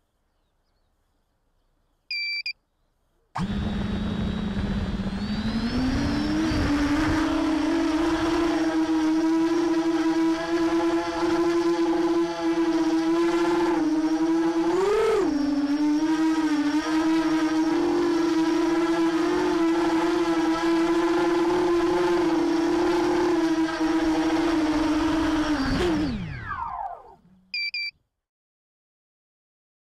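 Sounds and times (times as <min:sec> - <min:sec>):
quadcopter motors whining: 0:03.4 - 0:27.8.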